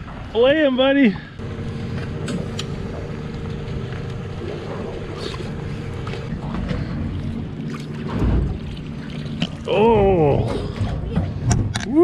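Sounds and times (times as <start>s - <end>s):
boat motor humming: 1.2s - 12.0s.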